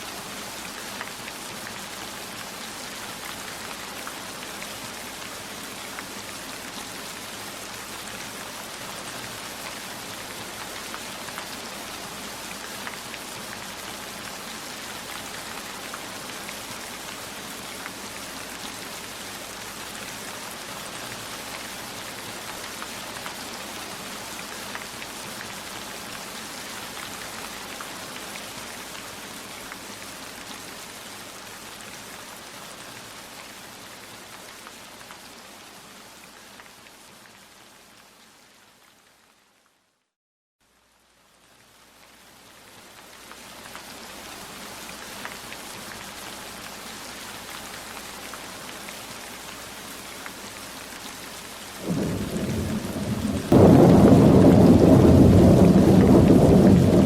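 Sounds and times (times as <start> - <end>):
steady rain falling: 0.0 - 39.9, 40.6 - 57.0
raindrops ticking on a surface: 0.1 - 39.6, 41.0 - 57.0.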